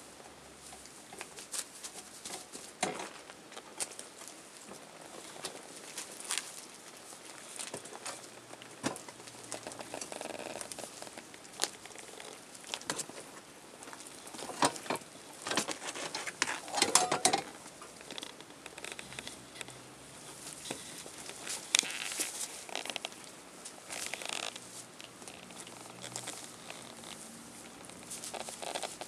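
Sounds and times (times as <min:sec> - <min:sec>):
pads crinkling: 0:00.7 - 0:29.0.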